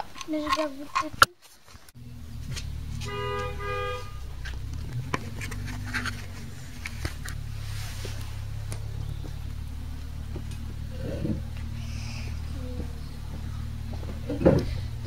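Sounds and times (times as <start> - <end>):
low hum: 2.0 - 15.0.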